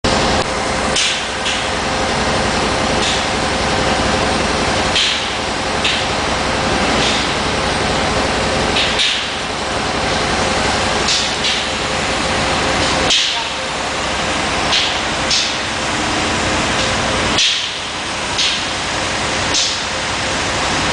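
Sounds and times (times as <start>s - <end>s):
machinery humming: 0.0s - 20.9s.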